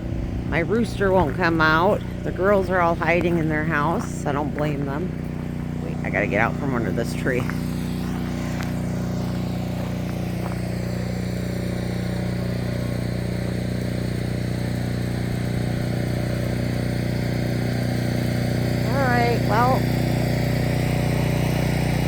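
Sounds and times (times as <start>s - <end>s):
small engine humming: 0.0s - 22.0s.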